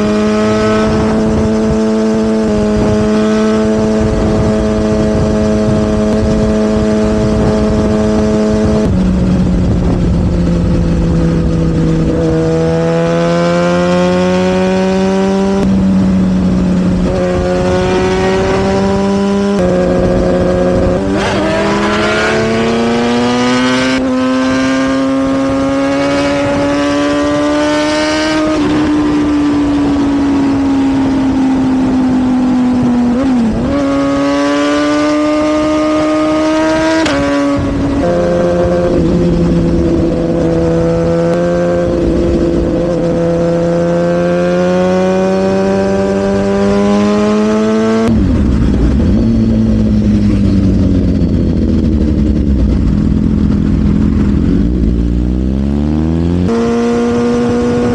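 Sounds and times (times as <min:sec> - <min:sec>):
motorcycle engine with gear changes: 0:00.0 - 0:57.9.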